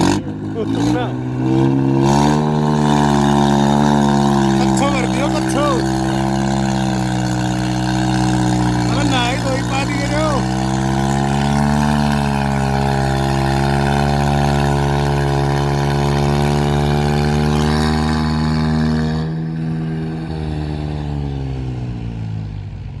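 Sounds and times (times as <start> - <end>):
tractor diesel engine running: 0.0 - 18.6.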